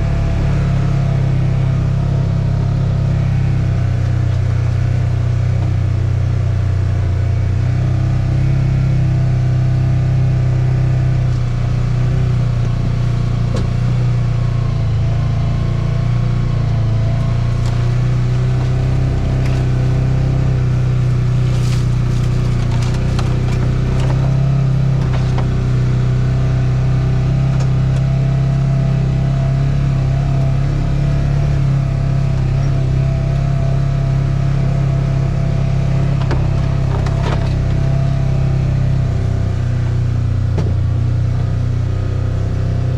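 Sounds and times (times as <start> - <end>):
car engine running: 0.0 - 42.9
road noise: 0.0 - 42.9.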